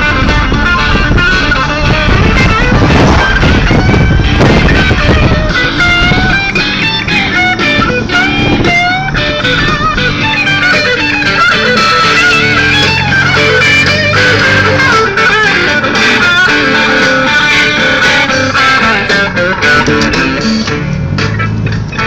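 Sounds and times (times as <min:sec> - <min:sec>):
bass guitar: 0:00.0 - 0:22.0
drums: 0:00.0 - 0:22.0
electric guitar lead: 0:00.0 - 0:22.0.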